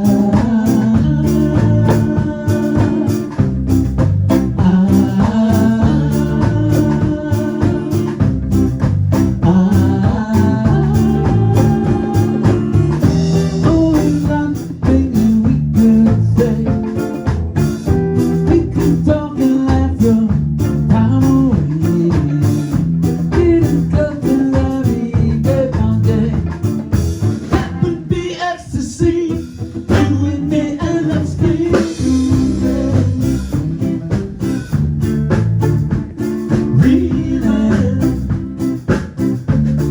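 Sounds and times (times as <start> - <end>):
person singing: 0.0 - 3.4, 4.3 - 8.4, 9.4 - 17.3, 18.2 - 26.6, 27.4 - 34.4, 36.7 - 38.4
band playing blues song: 0.0 - 39.9.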